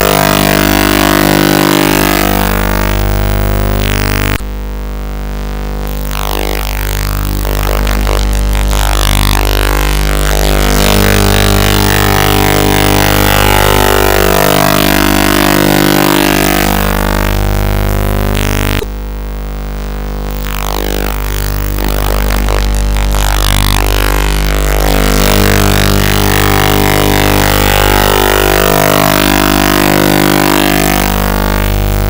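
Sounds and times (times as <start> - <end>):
distorted electronic music: 0.0 - 32.0.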